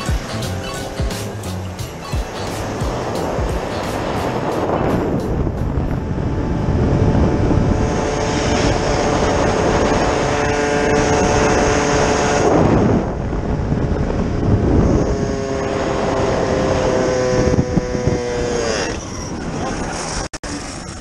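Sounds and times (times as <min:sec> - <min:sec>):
moped engine buzzing: 0:00.0 - 0:21.0
wind rushing past microphone: 0:00.0 - 0:21.0.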